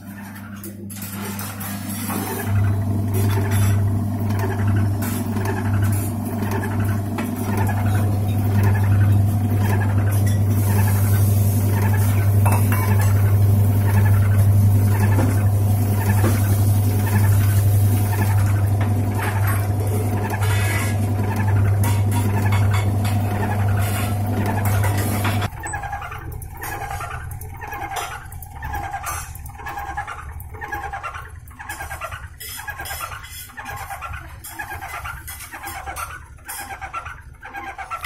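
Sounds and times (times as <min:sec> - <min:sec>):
washing machine motor and drum hum: 0:00.0 - 0:38.0.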